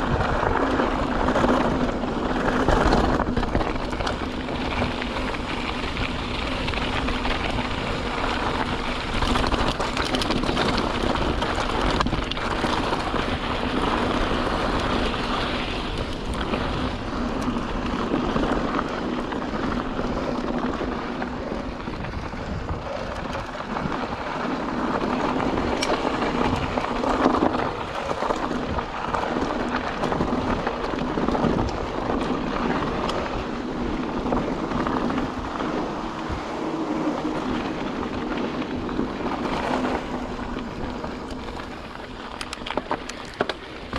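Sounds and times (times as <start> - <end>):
bike knocking and rattling: 0.0 - 43.9
tyres rolling over dirt and rocks: 0.0 - 43.9
wind on microphone: 0.0 - 43.9.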